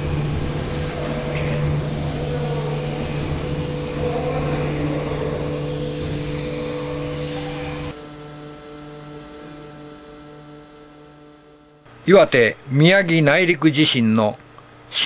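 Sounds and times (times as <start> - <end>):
low hum: 0.0 - 13.6
loud steady machine noise: 0.0 - 14.0.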